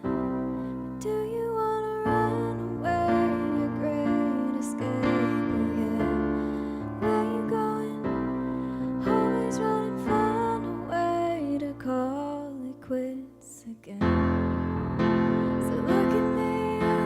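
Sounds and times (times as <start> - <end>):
piano chords: 0.0 - 13.4, 14.0 - 17.0
woman singing slow song: 0.0 - 14.3, 15.4 - 17.0.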